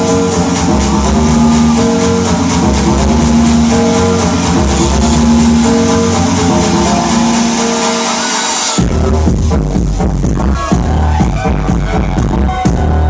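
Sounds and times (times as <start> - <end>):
electronic dance music: 0.0 - 13.0.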